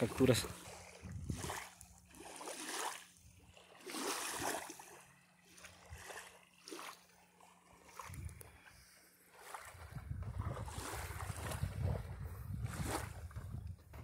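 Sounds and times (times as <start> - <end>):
water lapping against shore: 0.0 - 14.0.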